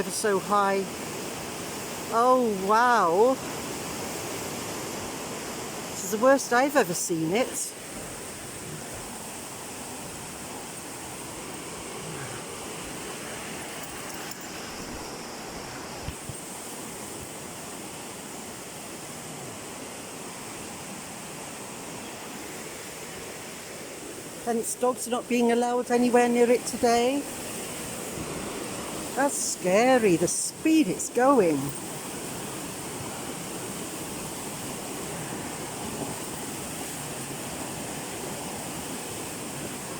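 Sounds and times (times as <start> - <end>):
flooded river rushing: 0.0 - 39.9.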